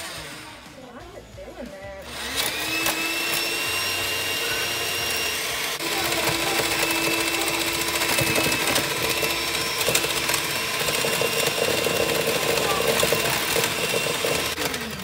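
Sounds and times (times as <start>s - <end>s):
electric hand mixer whining: 0.0s - 0.8s, 2.0s - 15.0s.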